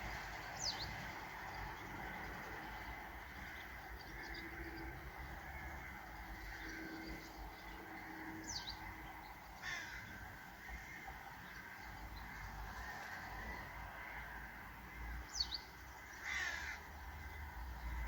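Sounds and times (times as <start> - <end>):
faint background noise: 0.0 - 18.0.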